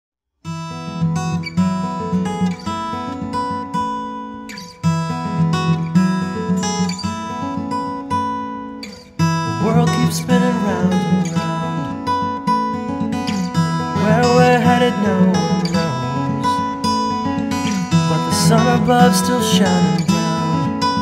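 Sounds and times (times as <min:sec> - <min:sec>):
acoustic guitar strumming: 0:00.5 - 0:21.0.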